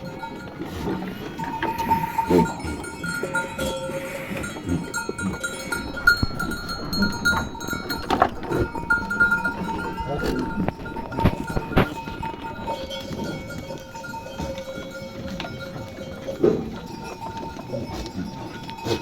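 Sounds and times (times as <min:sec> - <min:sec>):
sheep bells clanking: 0:00.0 - 0:19.0
sheep bleating: 0:00.0 - 0:19.0.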